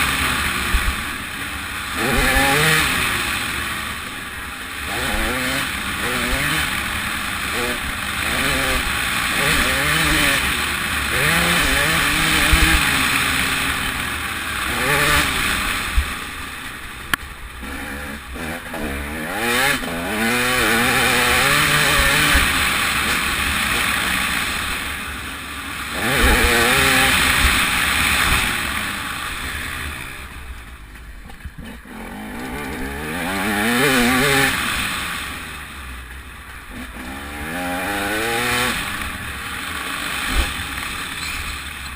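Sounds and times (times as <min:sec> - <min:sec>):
motocross bike engine revving: 0:00.0 - 0:30.6, 0:31.2 - 0:41.9.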